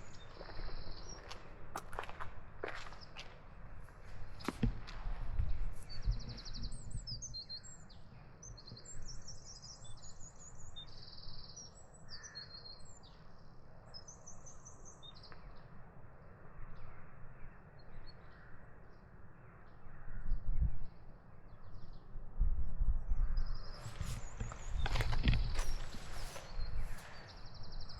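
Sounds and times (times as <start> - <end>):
songbirds singing: 0.0 - 1.6, 4.0 - 22.2, 23.1 - 27.9.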